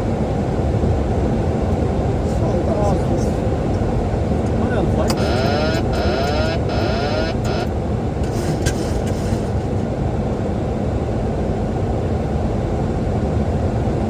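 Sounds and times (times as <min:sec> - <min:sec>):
cockpit airflow and engine rumble: 0:00.0 - 0:14.0.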